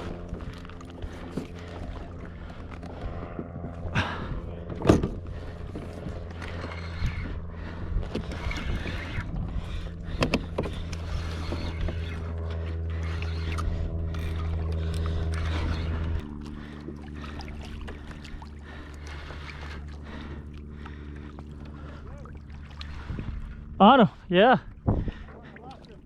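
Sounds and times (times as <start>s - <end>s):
low hum: 0.0s - 26.0s
water sloshing around kayak: 0.0s - 26.0s.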